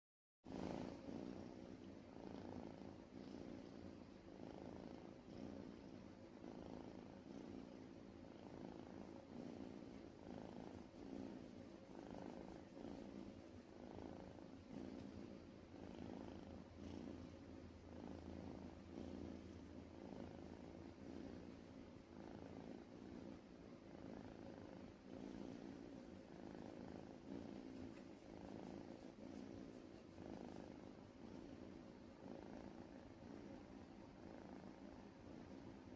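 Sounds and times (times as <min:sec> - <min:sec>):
kitten purring: 0:00.5 - 0:35.9.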